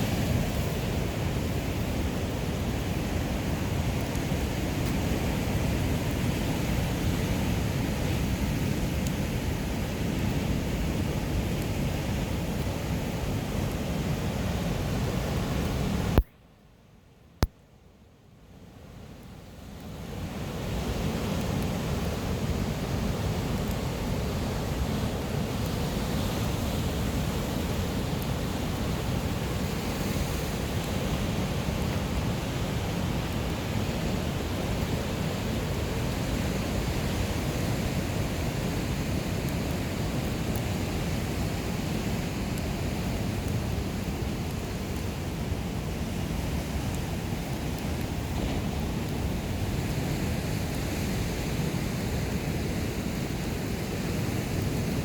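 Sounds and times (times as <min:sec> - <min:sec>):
ocean surf: 0:00.0 - 0:16.2, 0:19.8 - 0:55.0
wind: 0:00.0 - 0:55.0.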